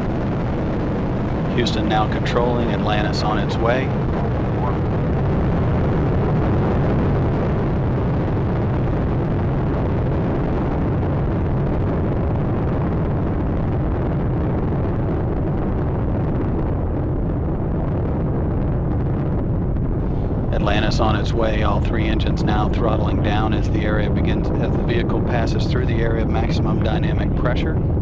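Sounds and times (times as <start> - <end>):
rocket engines roaring: 0.0 - 28.0.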